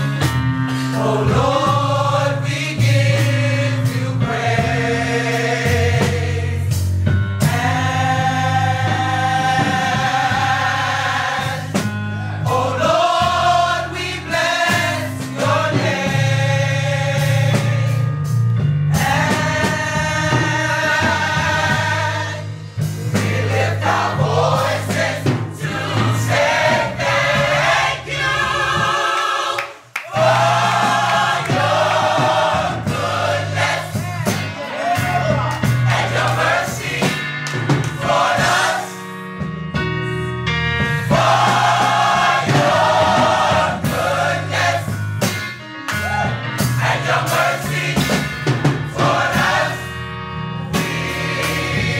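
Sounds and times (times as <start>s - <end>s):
bass line: 0.0s - 29.2s, 30.1s - 51.9s
gospel choir singing: 0.0s - 39.2s, 40.9s - 45.3s, 46.0s - 51.9s
band playing: 0.0s - 51.9s.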